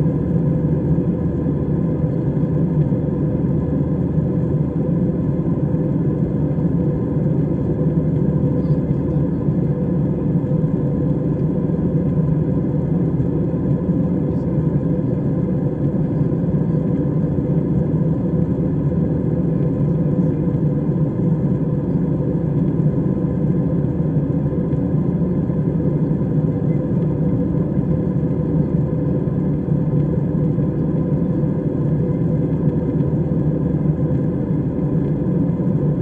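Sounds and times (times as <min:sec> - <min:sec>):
airliner cabin drone: 0:00.0 - 0:36.0.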